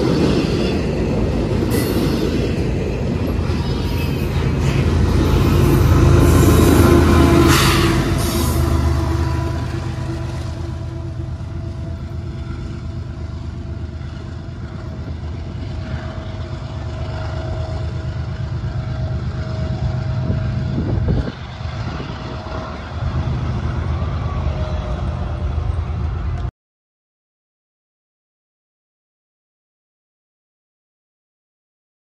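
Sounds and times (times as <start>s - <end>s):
diesel freight train rumble: 0.0s - 26.5s.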